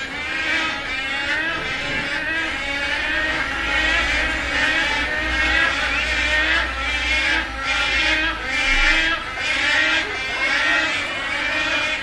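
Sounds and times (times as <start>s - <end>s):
storks calling: 0.0s - 12.0s.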